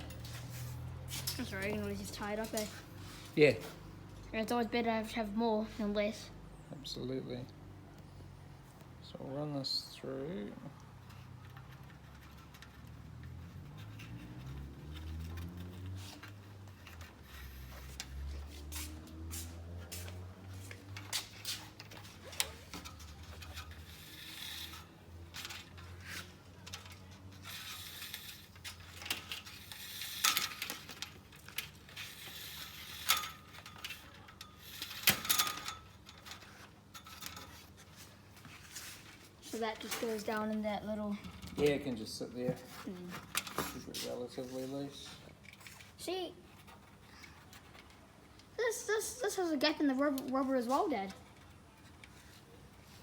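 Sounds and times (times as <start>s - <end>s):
wiring rubbing and scraping: 0.0s - 3.8s, 11.0s - 53.0s.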